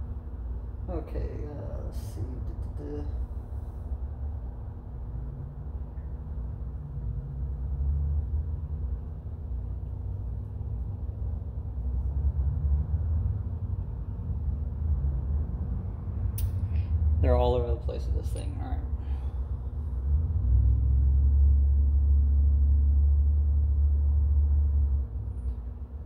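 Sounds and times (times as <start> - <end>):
faint constant hum: 0.0 - 26.0
low background rumble: 0.0 - 26.0.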